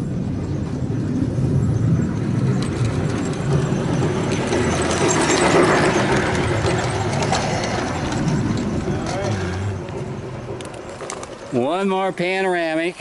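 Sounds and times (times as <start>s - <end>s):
toy train rolling on track: 2.2s - 13.0s.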